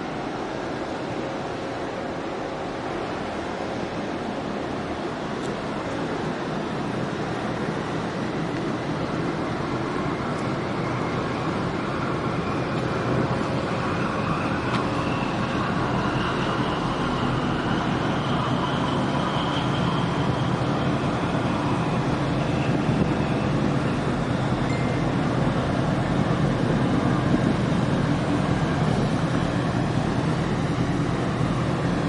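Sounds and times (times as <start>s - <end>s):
churning water: 0.0s - 32.0s
faint rising whine: 0.0s - 32.0s
ship engines rumbling: 0.0s - 32.0s.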